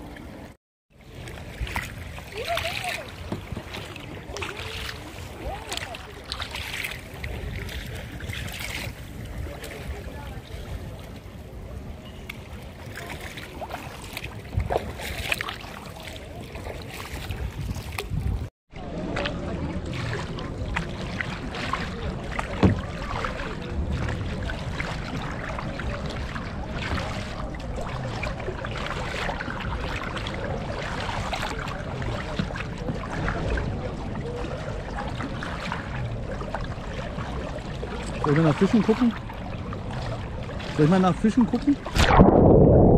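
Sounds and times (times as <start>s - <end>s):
paddles splashing in water: 0.0s - 42.6s.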